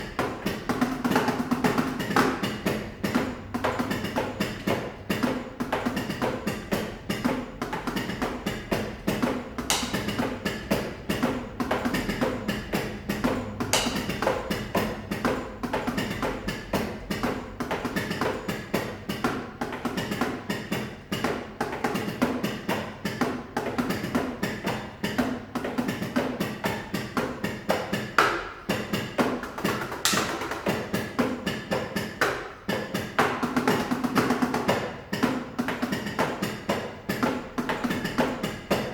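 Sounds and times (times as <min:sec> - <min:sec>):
drumsticks tapping rubber pads: 0:00.0 - 0:38.9.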